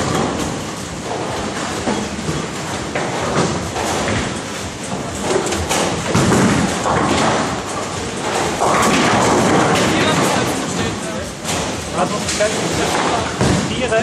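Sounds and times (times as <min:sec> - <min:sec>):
bowling balls thudding and rolling: 0:00.0 - 0:14.0
bowling pins clattering: 0:00.0 - 0:14.0
busy hall din: 0:00.0 - 0:14.0.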